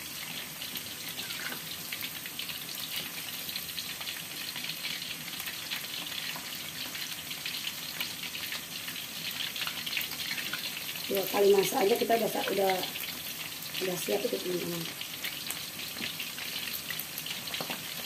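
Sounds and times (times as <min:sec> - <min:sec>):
oil sizzling with pops: 0:00.0 - 0:18.0.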